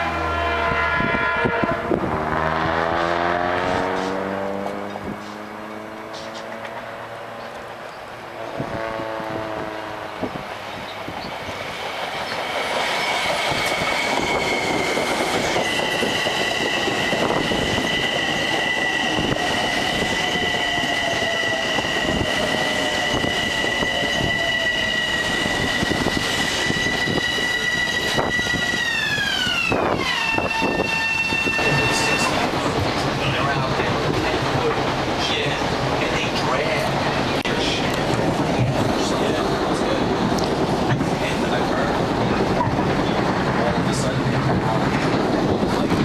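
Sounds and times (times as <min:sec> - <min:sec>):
train high whine: 0:00.0 - 0:46.0.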